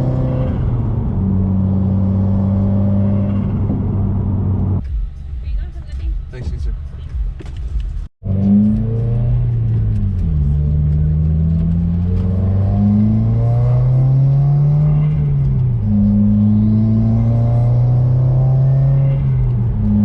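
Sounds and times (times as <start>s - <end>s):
car engine under throttle: 0.0s - 4.9s, 8.2s - 20.0s.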